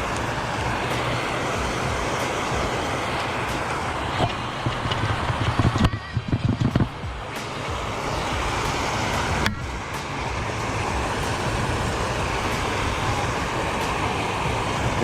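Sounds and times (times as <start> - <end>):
water rushing from outflow: 0.0 - 15.0.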